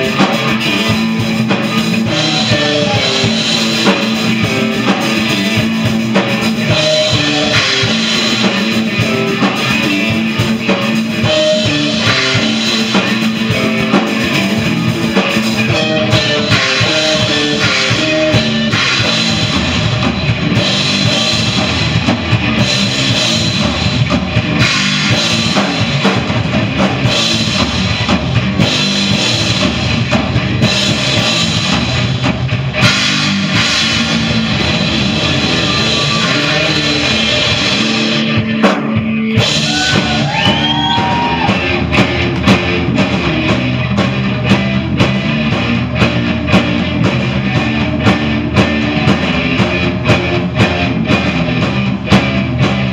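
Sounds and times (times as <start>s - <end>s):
drum kit: 0.0s - 52.9s
electric guitars: 0.0s - 52.9s.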